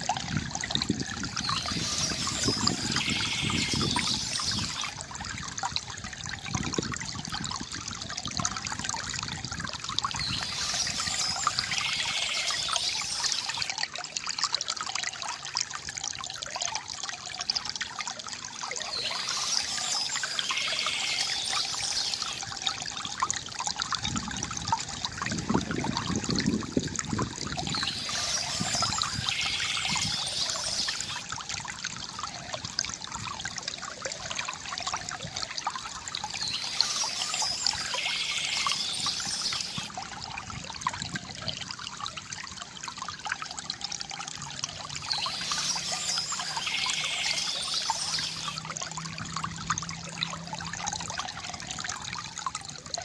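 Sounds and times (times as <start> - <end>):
fountain water trickling: 0.0 - 53.0.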